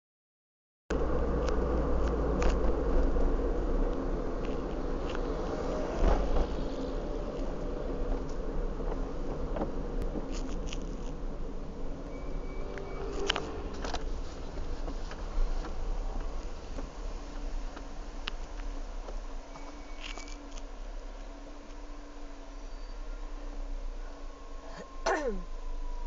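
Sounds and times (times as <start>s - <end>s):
car engine humming inside cabin: 0.9s - 26.0s.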